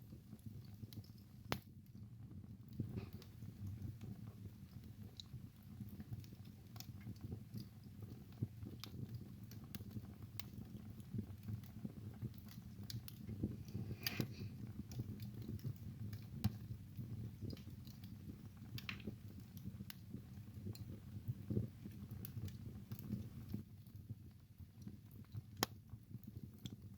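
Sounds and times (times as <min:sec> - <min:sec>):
burning logs crackling and popping: 0:00.0 - 0:26.9
fire rumbling: 0:00.0 - 0:26.9.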